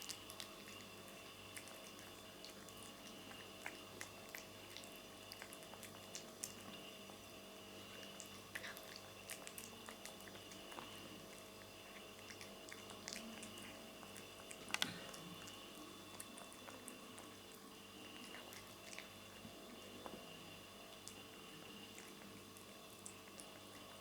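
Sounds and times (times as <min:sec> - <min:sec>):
cat eating wet smacks: 0:00.0 - 0:24.0
steady hum: 0:00.0 - 0:24.0.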